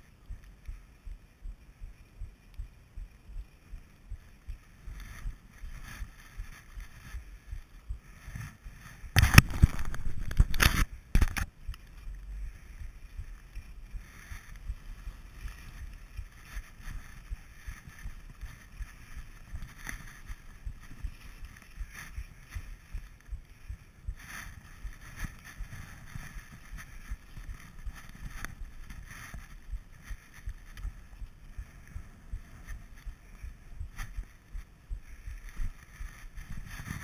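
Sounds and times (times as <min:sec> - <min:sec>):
skis scraping over snow: 0:02.0 - 0:37.0.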